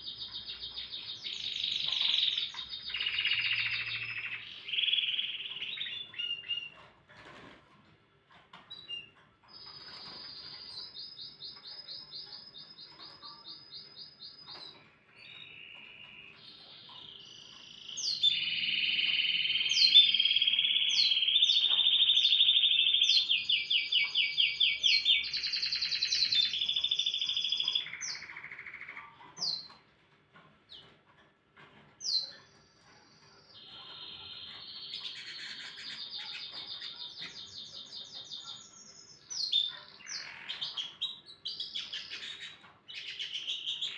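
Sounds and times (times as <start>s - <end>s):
canary singing: 0.0s - 6.9s, 8.6s - 43.9s.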